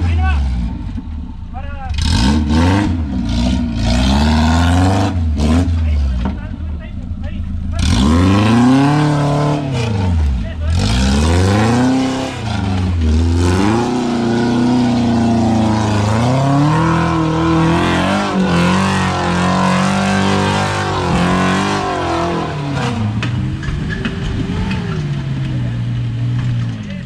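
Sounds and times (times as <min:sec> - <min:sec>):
off-road engine revving: 0:00.0 - 0:27.0.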